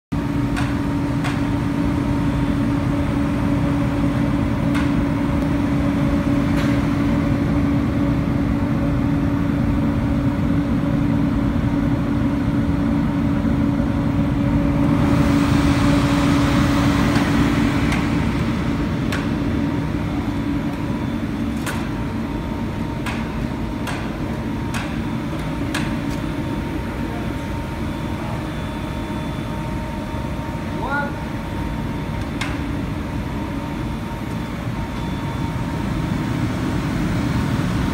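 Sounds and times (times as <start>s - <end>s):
fan hum with low tone: 0.2s - 37.9s.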